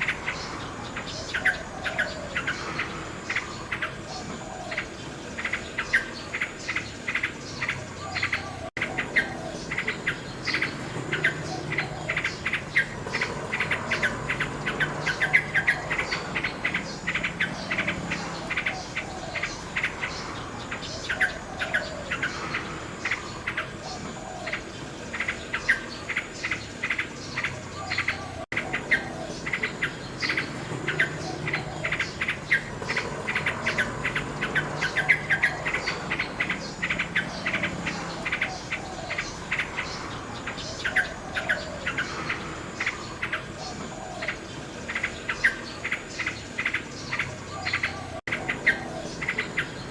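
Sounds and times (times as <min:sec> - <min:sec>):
nightingale singing: 0:00.0 - 0:49.9.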